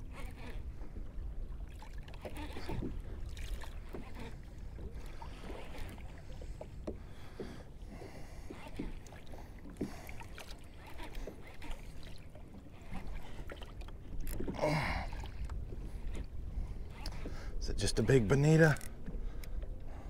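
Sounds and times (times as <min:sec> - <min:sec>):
waves lapping against kayak hull: 0:00.0 - 0:20.0.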